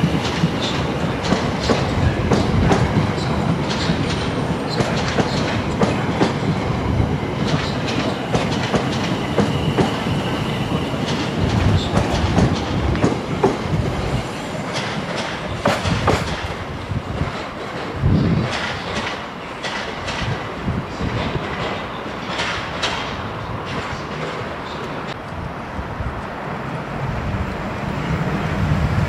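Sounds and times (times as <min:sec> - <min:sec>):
train wheels clattering over rail joints: 0:00.0 - 0:06.6, 0:07.3 - 0:25.0.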